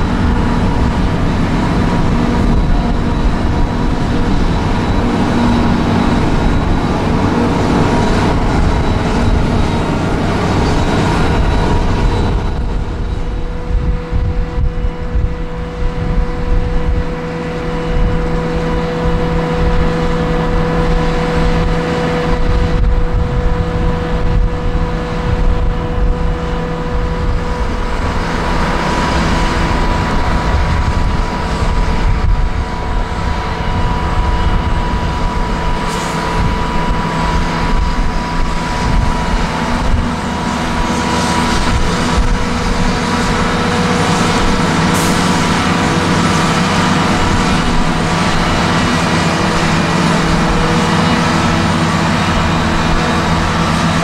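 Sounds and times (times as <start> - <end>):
constant whining tones: 0.0 - 54.0
diesel machinery engine running: 0.0 - 54.0.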